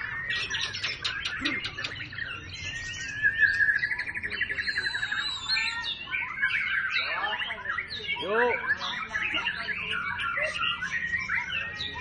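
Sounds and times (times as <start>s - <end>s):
bird trill: 0.0s - 12.0s
songbirds chirping and whistling: 0.0s - 12.0s.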